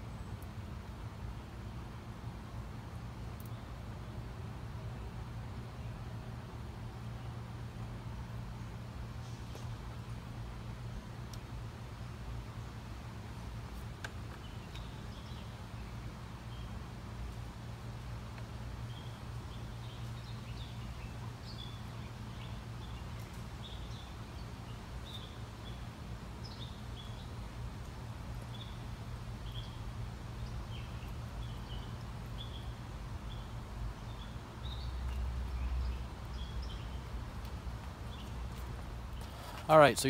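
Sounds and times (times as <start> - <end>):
steady low background hum: 0.0 - 40.0
small birds chirping: 3.0 - 40.0.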